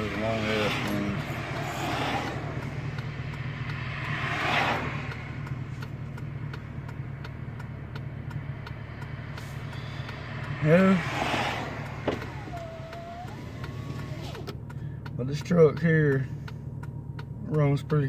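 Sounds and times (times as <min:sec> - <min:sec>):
light regular ticking: 0:00.0 - 0:18.0
truck engine idling: 0:00.0 - 0:18.0.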